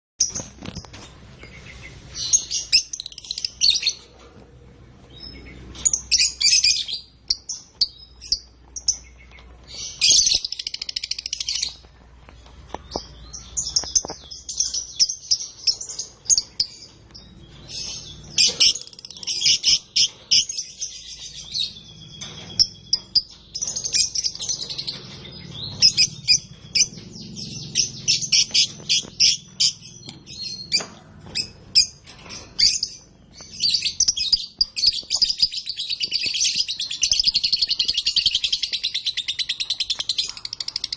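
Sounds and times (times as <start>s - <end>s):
canaries singing: 0.2s - 40.9s.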